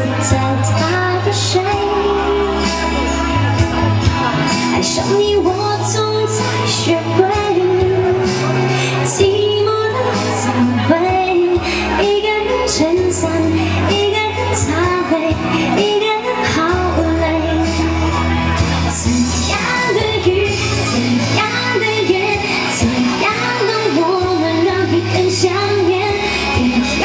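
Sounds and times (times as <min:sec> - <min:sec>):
musical accompaniment: 0:00.0 - 0:27.0
woman singing into microphone: 0:00.0 - 0:27.0.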